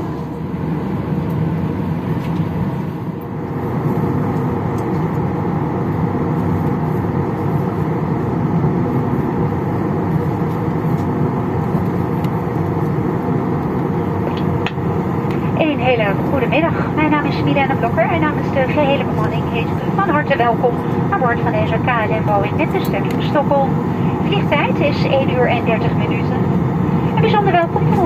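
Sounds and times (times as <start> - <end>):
fans humming: 0.0 - 28.0.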